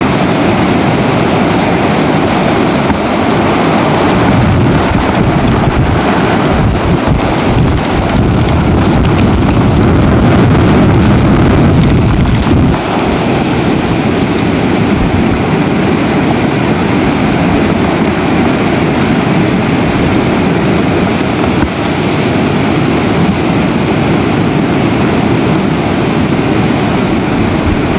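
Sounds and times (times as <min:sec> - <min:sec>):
strong wind buffeting microphone: 0:00.0 - 0:27.9.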